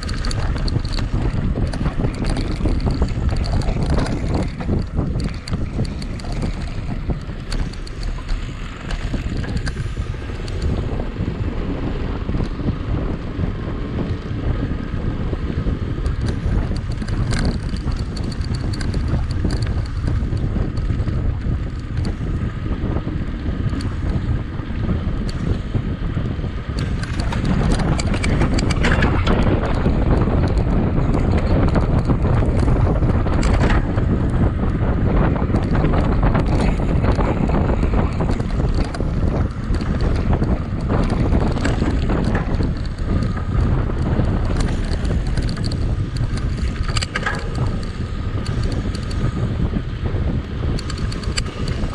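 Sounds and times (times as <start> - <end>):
bike rattling over trail: 0.0 - 51.9
wind rushing over microphone: 0.0 - 51.9.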